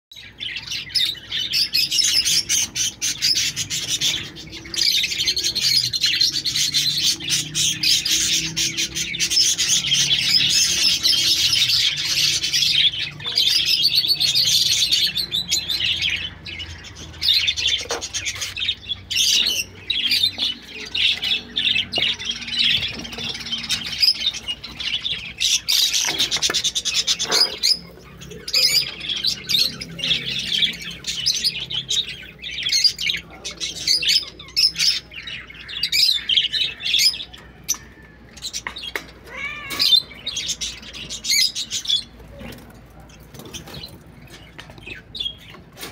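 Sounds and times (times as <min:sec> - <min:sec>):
budgerigars chattering and chirping: 0:00.2 - 0:45.9.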